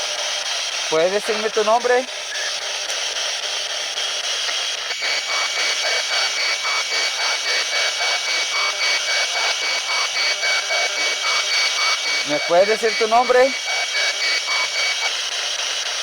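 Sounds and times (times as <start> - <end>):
radio static bursts: 0.6 - 16.0.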